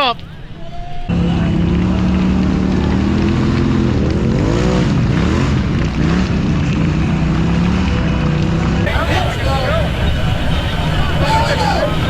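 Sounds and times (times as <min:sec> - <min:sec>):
off-road vehicle engine revving: 0:01.1 - 0:12.0.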